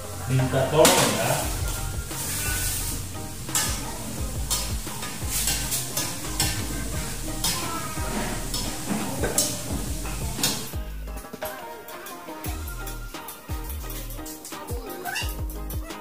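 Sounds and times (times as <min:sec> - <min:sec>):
food sizzling: 0:00.0 - 0:16.0
metal spatula scraping wok: 0:00.0 - 0:16.0.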